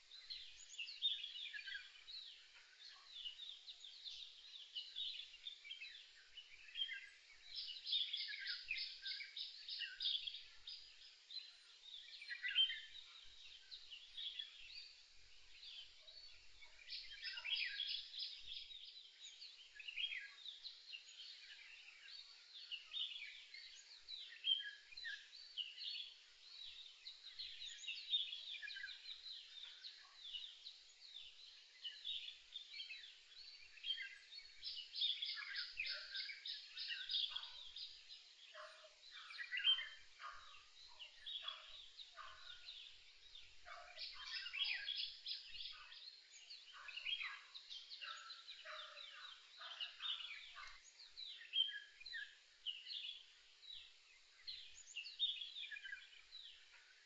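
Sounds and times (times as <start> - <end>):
birds chirping and chattering: 0.0 - 57.0.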